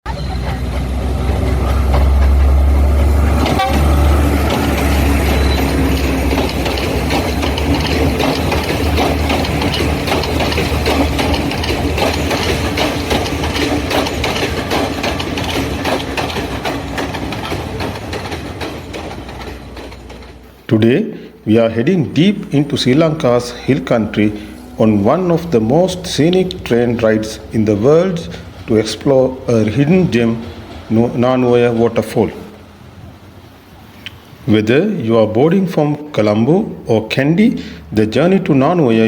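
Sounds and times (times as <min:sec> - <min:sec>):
train rumbling on rails: 0:00.0 - 0:39.0
wheels clattering: 0:00.1 - 0:20.7, 0:21.7 - 0:34.5.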